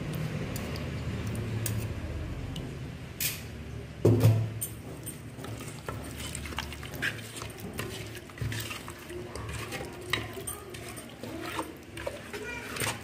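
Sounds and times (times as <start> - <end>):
wet squelching of kneaded meat: 0.0 - 2.9, 5.1 - 13.0.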